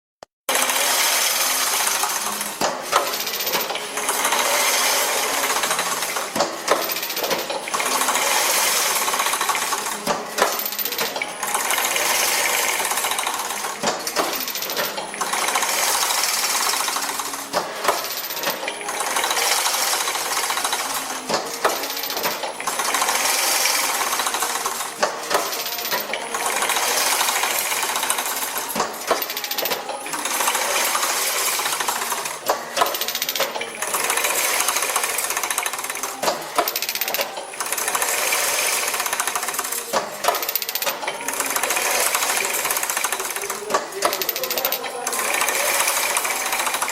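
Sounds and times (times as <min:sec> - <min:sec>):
mesh machine metallic clattering: 0:00.5 - 0:46.9.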